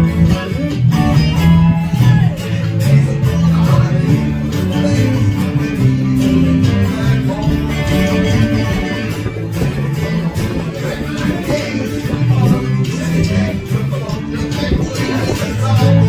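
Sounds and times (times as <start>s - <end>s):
changing low notes: 0.0s - 16.0s
guitar music: 0.0s - 16.0s.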